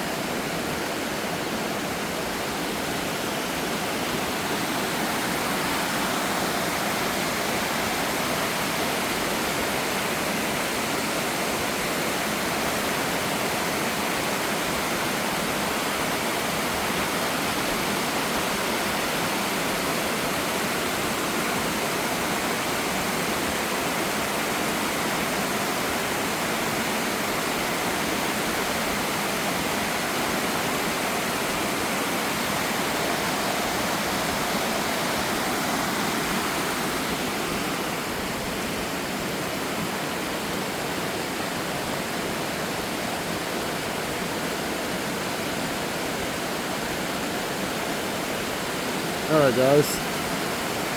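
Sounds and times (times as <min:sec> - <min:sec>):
waterfall and creek rushing: 0:00.0 - 0:50.9.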